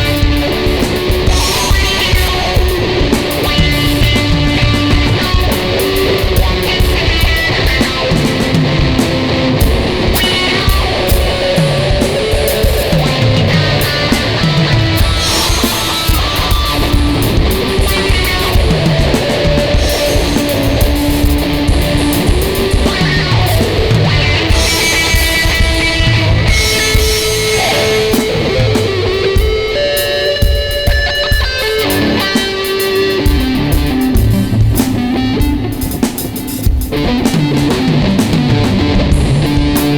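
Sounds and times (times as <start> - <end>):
drums: 0.0 - 39.9
electric guitar riff: 0.0 - 39.9.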